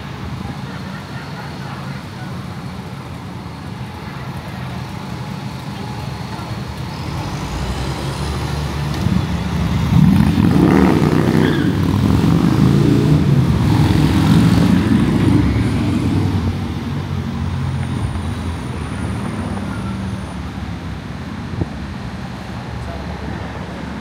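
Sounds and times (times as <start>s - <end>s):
heavy vehicle engine rumbling: 0.0s - 24.0s.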